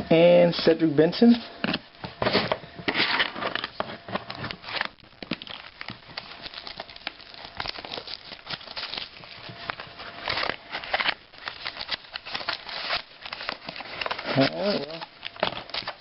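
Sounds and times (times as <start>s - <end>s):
card packaging rustling and crinkling: 1.2s - 16.0s.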